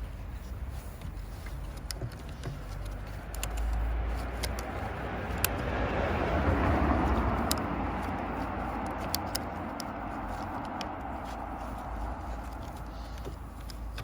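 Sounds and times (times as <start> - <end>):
road vehicle passing: 0.0 - 14.0
small sharp clicks: 1.4 - 14.0.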